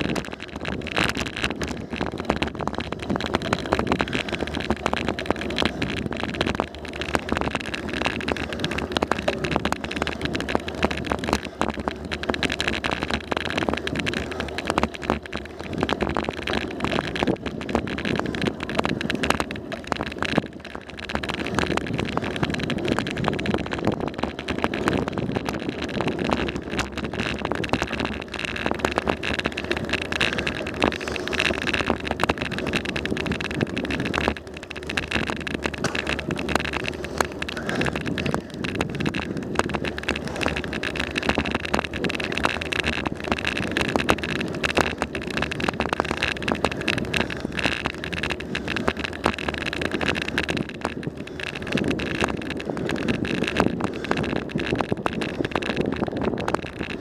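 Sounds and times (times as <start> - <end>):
bicycle tyre road noise: 0.0 - 57.0
small rattles and knocks: 0.0 - 57.0
wind on microphone: 0.0 - 57.0.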